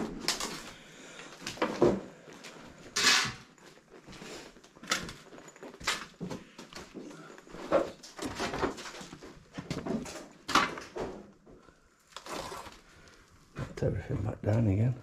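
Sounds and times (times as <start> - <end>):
debris knocking and scraping underfoot: 0.0 - 13.9.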